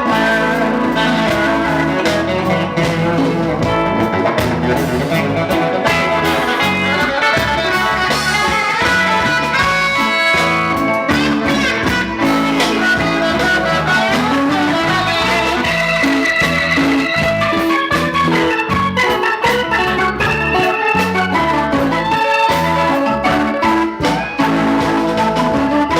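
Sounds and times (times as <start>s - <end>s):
guitar: 0.0s - 25.9s
live reggae band: 0.0s - 25.9s.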